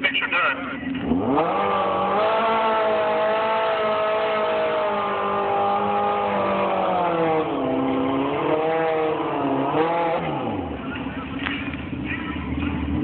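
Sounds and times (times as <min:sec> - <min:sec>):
motorcycle engine revving: 0:00.6 - 0:13.0.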